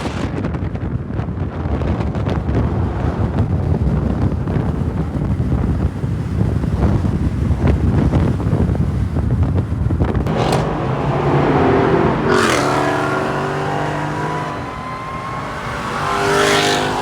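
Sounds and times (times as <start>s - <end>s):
car engines rumbling: 0.0s - 17.0s
wind buffeting microphone: 0.0s - 17.0s.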